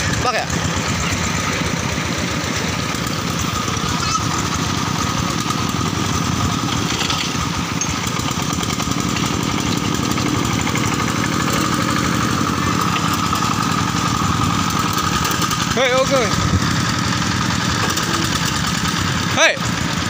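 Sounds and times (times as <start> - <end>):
diesel tractor engine running: 0.0 - 20.0.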